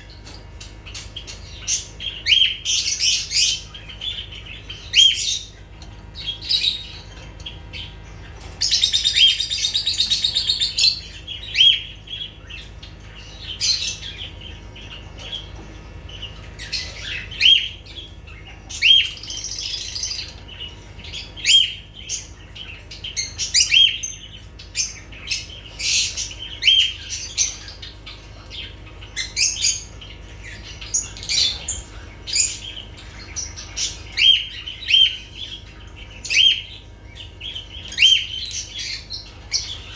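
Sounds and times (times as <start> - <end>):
birds chirping: 0.0 - 39.9
birds rattling chatter: 0.0 - 39.9.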